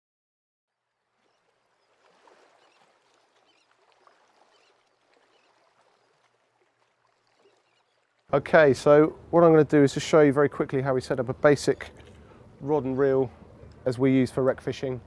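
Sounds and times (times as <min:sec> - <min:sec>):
soft water sounds: 0:00.7 - 0:15.0.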